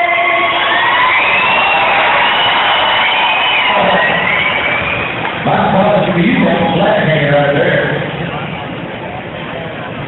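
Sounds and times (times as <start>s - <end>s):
crowd noise: 0.0s - 10.0s.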